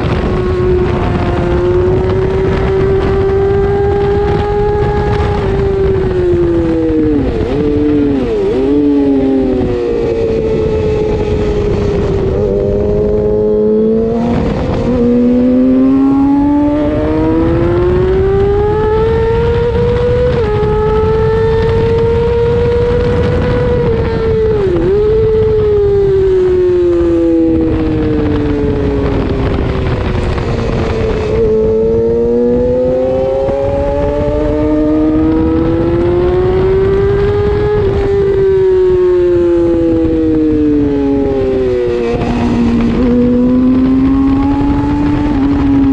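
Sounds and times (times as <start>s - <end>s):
motorcycle engine revving: 0.0s - 45.9s
wind rushing: 0.0s - 45.9s.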